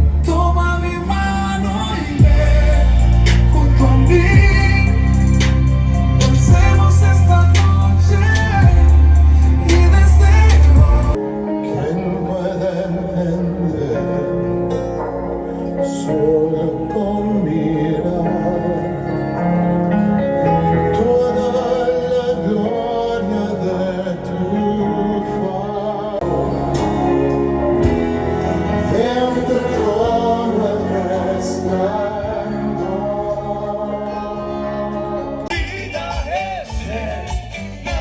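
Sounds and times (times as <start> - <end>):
song with male vocals: 0.0 - 38.0.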